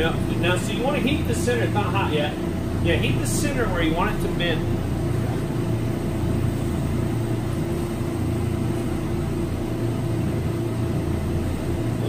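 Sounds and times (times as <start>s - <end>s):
faint steady hum: 0.0s - 12.0s
torch flame rushing: 0.0s - 12.0s.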